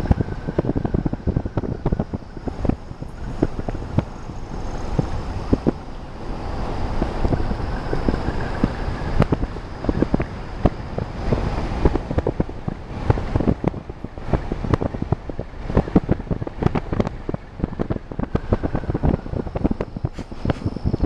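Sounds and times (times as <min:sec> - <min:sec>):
road rumble: 0:00.0 - 0:21.0
wind buffeting microphone: 0:00.0 - 0:21.0.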